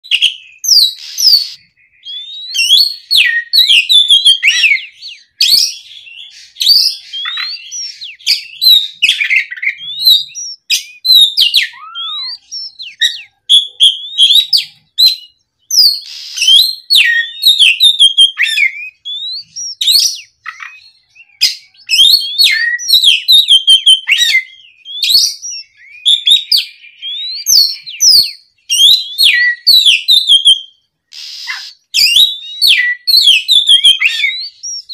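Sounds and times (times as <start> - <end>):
bird singing whistles and chips: 0.0 - 34.9.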